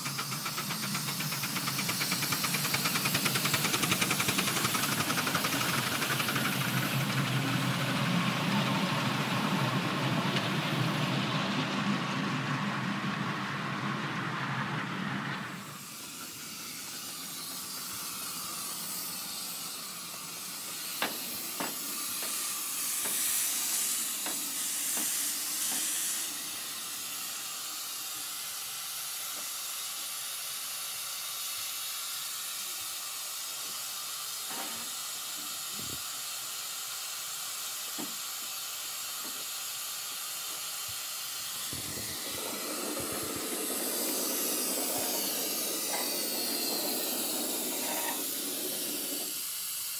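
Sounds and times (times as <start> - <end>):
steam hissing: 0.0 - 49.9.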